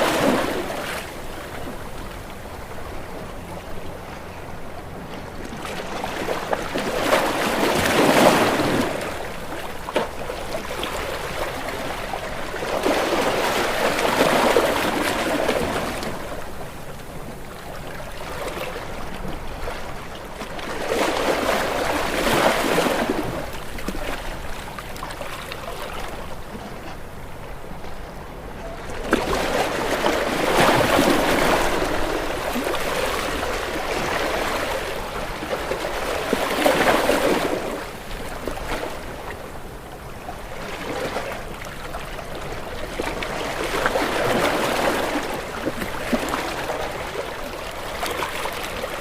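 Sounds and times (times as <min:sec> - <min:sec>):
waves breaking against rocks: 0:00.0 - 0:03.0, 0:05.2 - 0:49.0.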